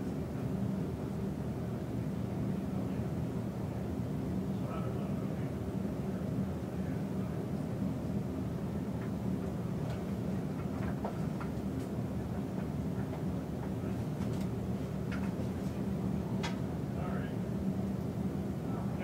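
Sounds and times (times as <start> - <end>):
low room rumble: 0.0 - 19.0.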